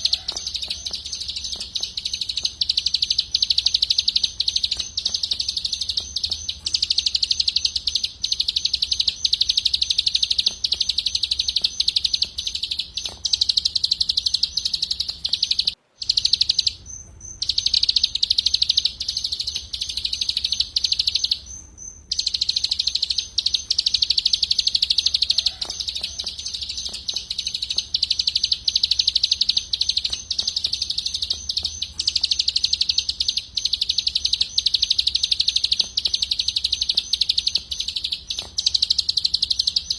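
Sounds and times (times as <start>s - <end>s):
songbird fast trill: 0.0s - 39.9s.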